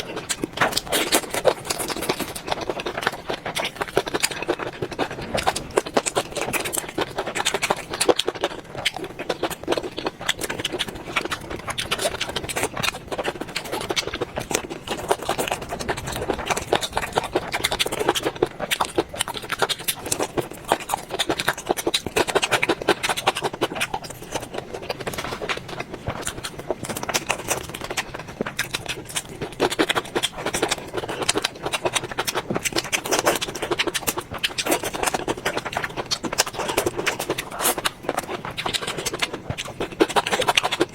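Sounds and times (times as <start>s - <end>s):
crunching and wet chewing: 0.0s - 40.9s.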